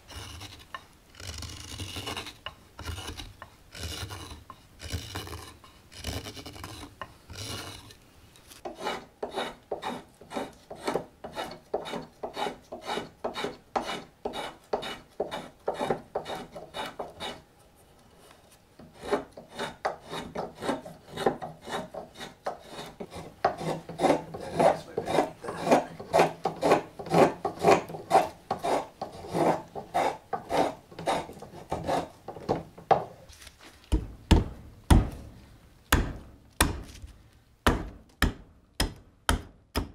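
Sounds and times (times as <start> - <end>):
knives scraping wood: 0.0 - 32.7.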